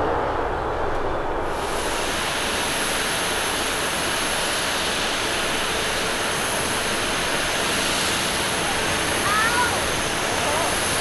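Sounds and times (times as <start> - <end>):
jet engines rushing and whining: 0.0 - 11.0.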